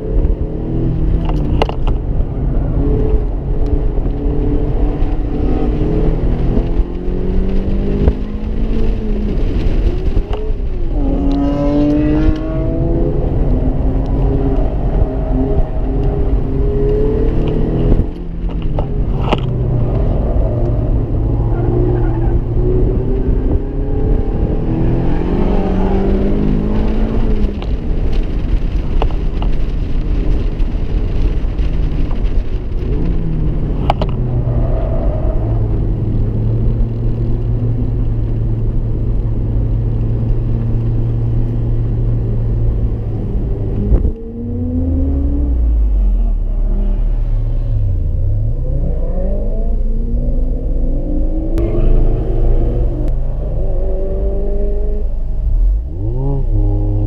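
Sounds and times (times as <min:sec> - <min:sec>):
car engine revving: 0:00.0 - 0:57.0
wind and road noise: 0:00.0 - 0:57.0.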